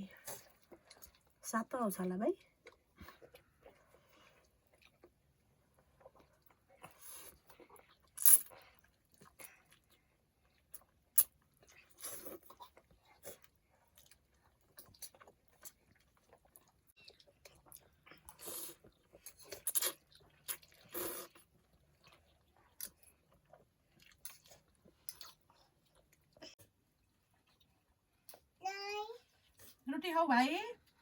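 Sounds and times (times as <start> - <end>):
chewing and crunching: 0.1 - 1.4, 2.3 - 28.6.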